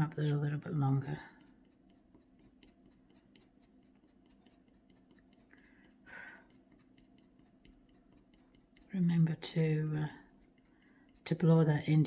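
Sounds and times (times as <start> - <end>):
scratchboard tool scratching: 0.0 - 12.0.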